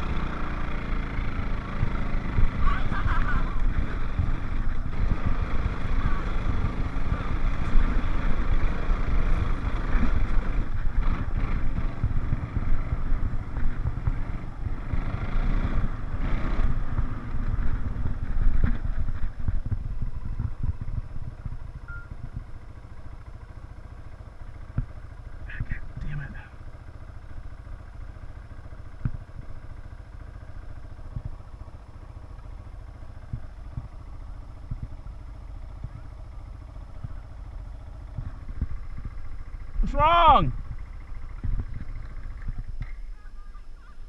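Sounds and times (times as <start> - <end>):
all-terrain vehicle engine running: 0.0 - 44.0.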